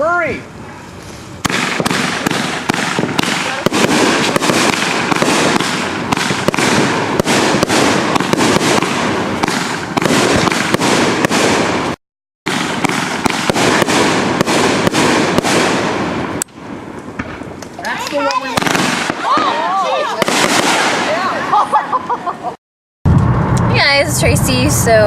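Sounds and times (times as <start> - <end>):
fireworks crackling and popping: 0.0 - 21.7.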